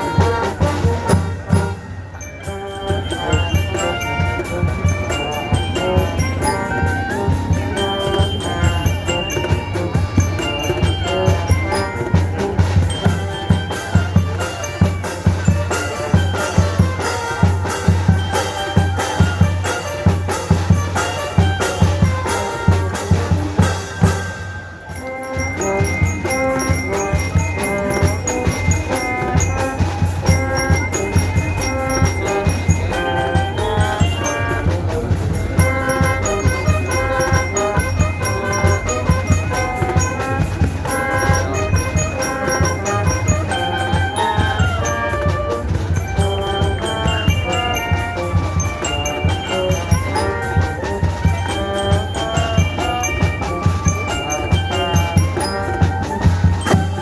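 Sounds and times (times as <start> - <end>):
melody of held notes: 0.0 - 57.0
steady drumbeat: 0.0 - 57.0.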